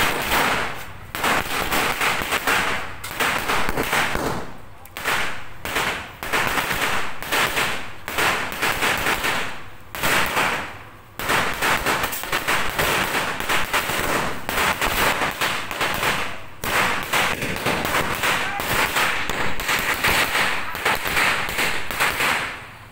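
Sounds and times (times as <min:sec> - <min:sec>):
firecrackers bursting: 0:00.0 - 0:22.9.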